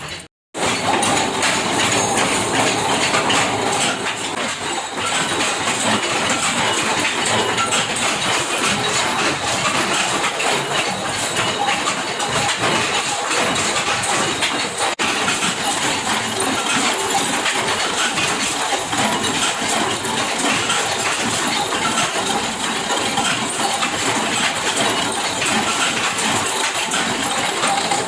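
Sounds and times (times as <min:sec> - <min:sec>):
factory machinery clattering: 0:00.0 - 0:28.0.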